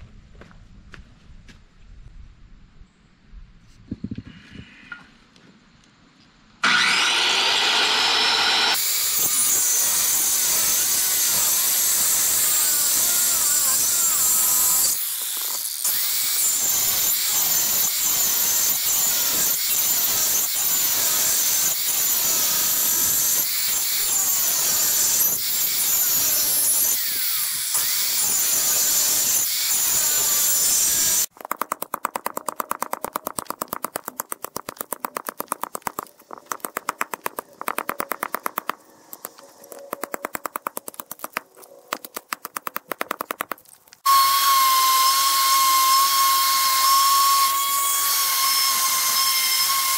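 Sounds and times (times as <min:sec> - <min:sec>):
circular saw cutting log: 0:06.6 - 0:49.9.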